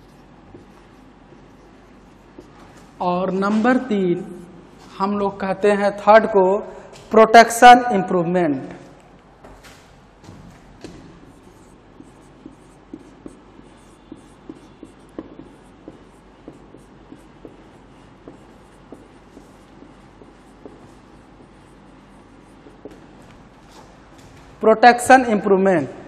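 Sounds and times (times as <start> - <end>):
marker writing on whiteboard: 0.0 - 6.4, 8.6 - 25.4.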